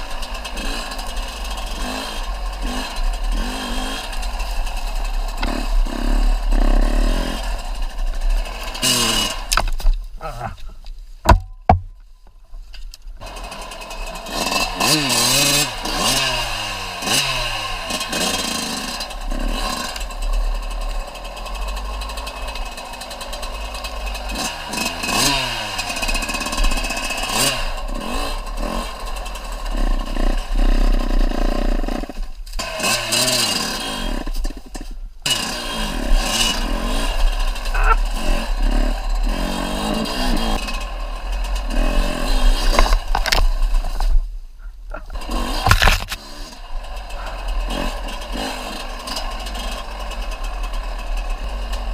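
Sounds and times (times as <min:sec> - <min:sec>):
off-road vehicle engine revving: 0:00.0 - 0:10.6, 0:13.2 - 0:44.1, 0:44.9 - 0:51.9.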